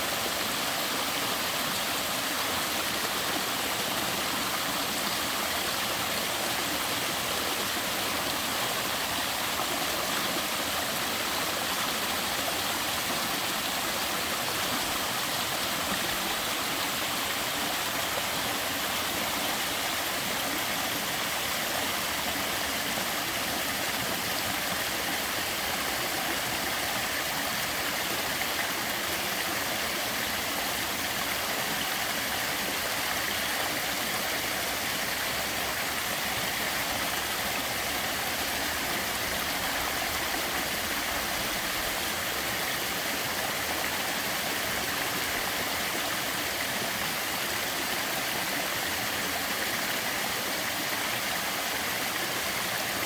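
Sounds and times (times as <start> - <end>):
small waterfall splashing: 0.0 - 53.0.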